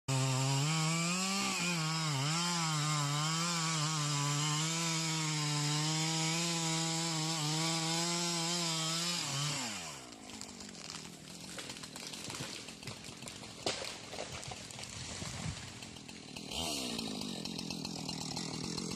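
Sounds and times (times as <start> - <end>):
chainsaw running at high revs: 0.1 - 18.9.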